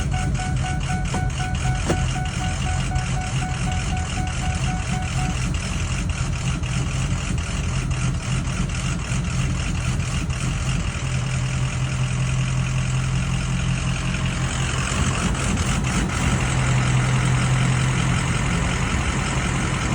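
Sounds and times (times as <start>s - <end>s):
diesel engine idling: 0.0s - 19.9s
faint fine engine ticking: 0.0s - 19.9s.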